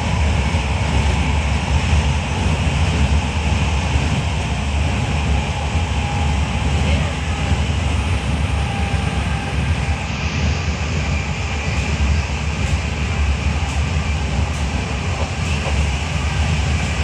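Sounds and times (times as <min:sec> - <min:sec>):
train rumbling at speed: 0:00.0 - 0:17.0.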